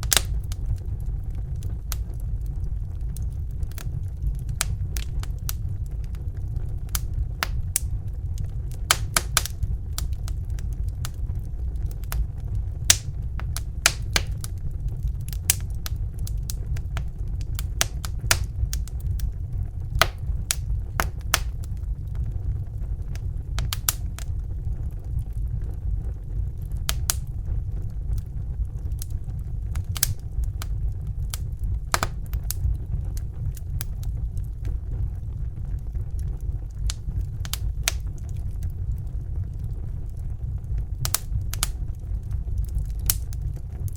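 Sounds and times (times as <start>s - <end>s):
fire crackling and popping: 0.0s - 43.9s
low rumble: 0.0s - 43.9s.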